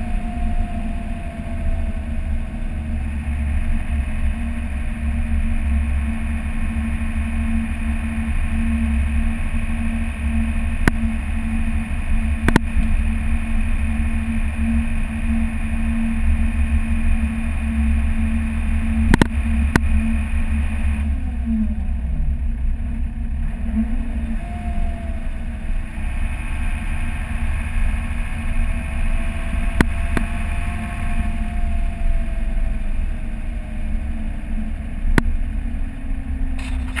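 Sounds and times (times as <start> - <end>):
faint whine: 0.0 - 37.0
truck engine rumble: 0.0 - 37.0.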